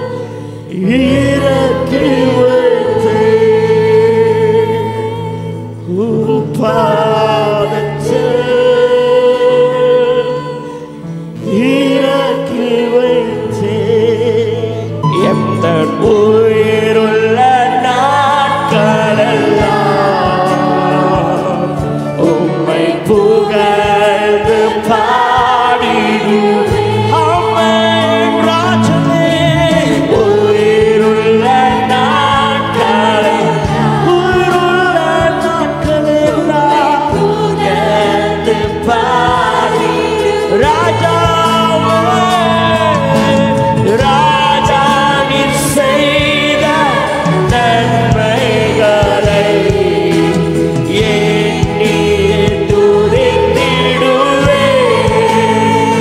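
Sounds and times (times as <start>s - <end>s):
band with keyboards and percussion: 0.0s - 56.0s
singers singing in unison: 0.0s - 56.0s.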